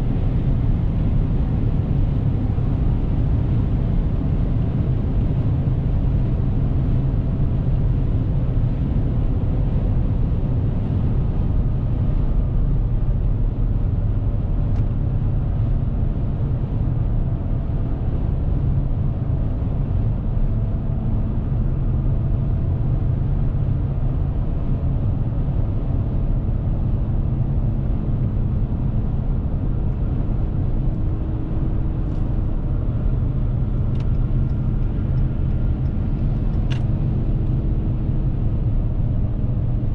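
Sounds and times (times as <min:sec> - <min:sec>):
car engine drone: 0:00.0 - 0:39.9
tyre and road roar: 0:00.0 - 0:39.9.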